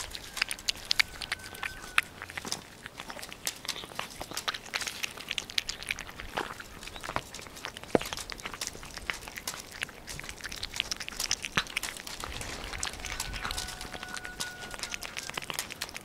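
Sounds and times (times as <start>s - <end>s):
cats chewing and licking: 0.0s - 16.0s.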